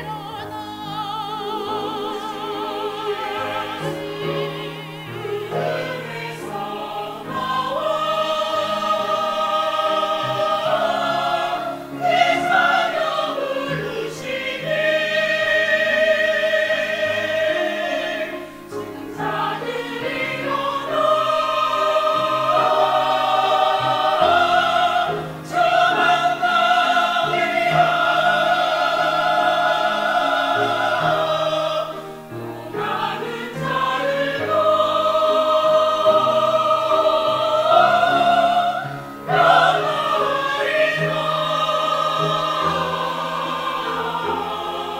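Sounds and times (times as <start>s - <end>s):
mixed choir singing: 0.0s - 44.9s
solo soprano singing: 0.0s - 44.9s.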